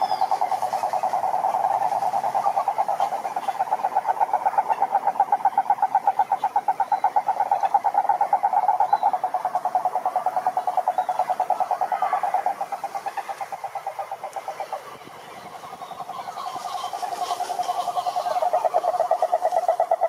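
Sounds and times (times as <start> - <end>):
frog trilling: 0.0 - 20.0.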